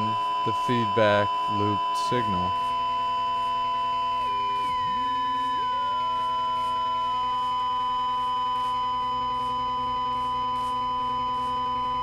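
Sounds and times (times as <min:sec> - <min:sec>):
electronic feedback tones: 0:00.0 - 0:12.0.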